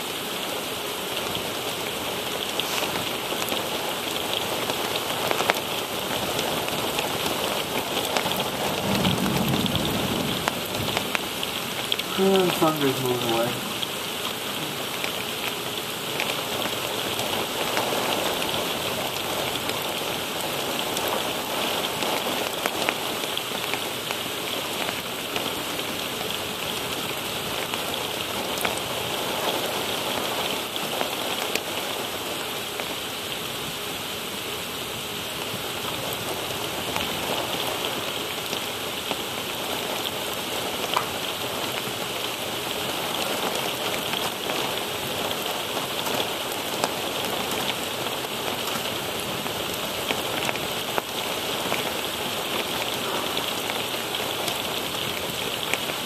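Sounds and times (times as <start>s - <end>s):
raindrops ticking close by: 0.0s - 33.8s, 34.8s - 56.0s
heavy rain pouring: 0.0s - 56.0s.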